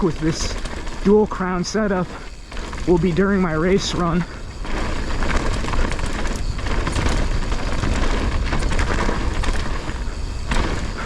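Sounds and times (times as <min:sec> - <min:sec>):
bike knocking and clattering: 0:00.0 - 0:11.0
tyres rumbling over dirt: 0:00.0 - 0:11.0
wind buffeting microphone: 0:00.0 - 0:11.0.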